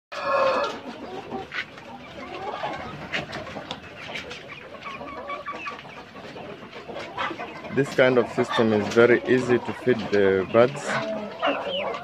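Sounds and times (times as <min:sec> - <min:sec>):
hens clucking and calling: 0:00.1 - 0:12.0.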